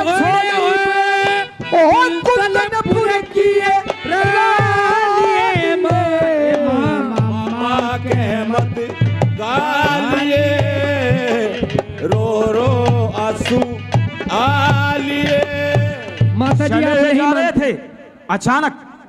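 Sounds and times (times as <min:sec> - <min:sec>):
wavering folk melody: 0:00.0 - 0:17.1
steady hand-drum beat: 0:00.1 - 0:17.0.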